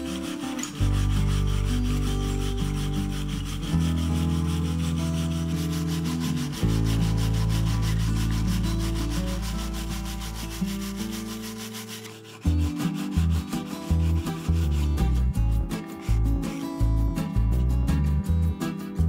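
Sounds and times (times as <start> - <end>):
background music with low notes: 0.0 - 19.0
wire brush scrubbing wood: 0.0 - 19.0.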